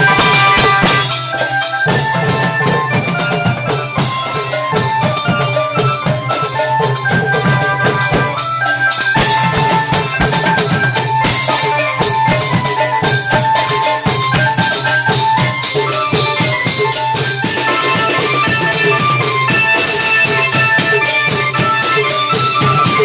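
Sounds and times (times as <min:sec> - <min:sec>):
fast drum ensemble: 0:00.0 - 0:23.0
melody of held notes: 0:00.0 - 0:23.0.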